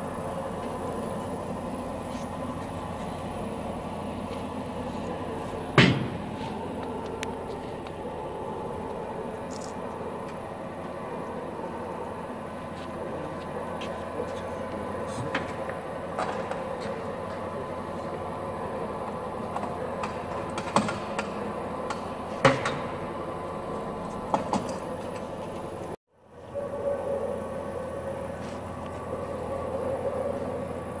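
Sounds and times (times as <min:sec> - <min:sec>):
machine mechanical hum: 0:00.0 - 0:31.0.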